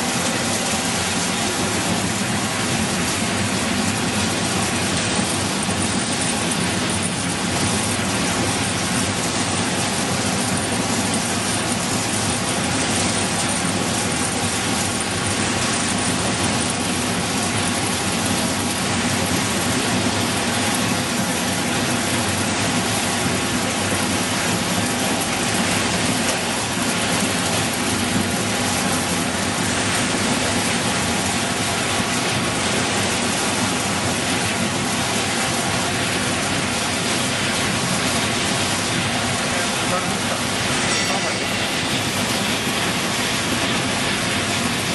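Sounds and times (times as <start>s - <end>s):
production line machinery running: 0.0s - 44.9s.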